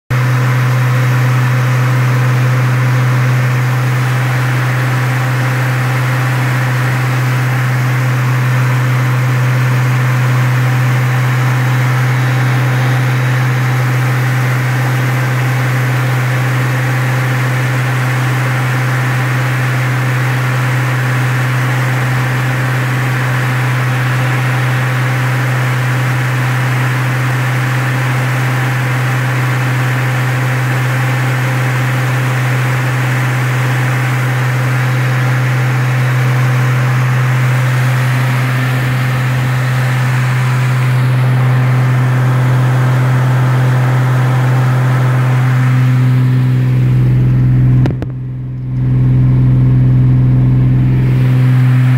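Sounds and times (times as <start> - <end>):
car engine running steadily: 0.1 - 51.9.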